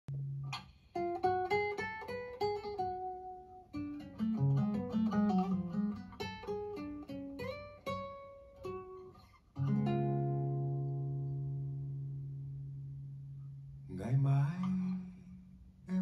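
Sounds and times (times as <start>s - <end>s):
plucked string notes: 0.1s - 16.0s.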